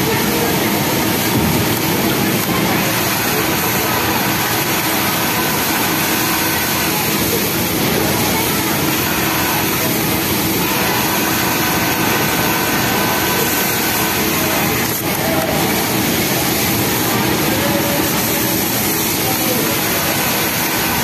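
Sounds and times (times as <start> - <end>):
hum of other machines: 0.0 - 21.0
sewing machine running: 0.0 - 21.0.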